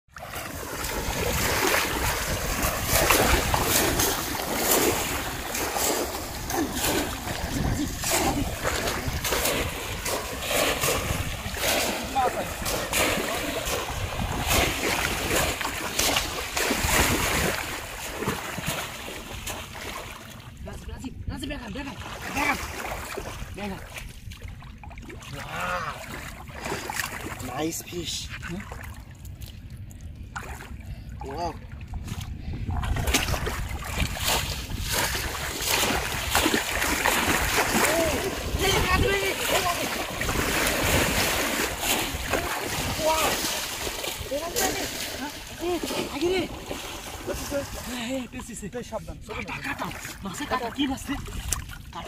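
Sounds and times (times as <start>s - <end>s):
shallow river water splashing: 0.1s - 52.0s.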